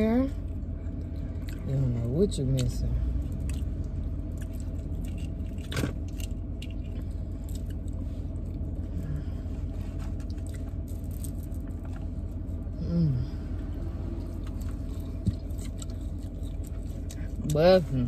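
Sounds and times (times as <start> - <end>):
car engine hum in cabin: 0.0 - 18.0.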